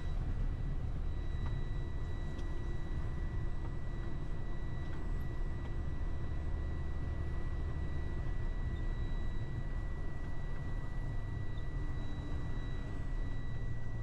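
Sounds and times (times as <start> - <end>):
faint high whine: 0.0 - 14.0
truck engine and road rumble: 0.0 - 14.0.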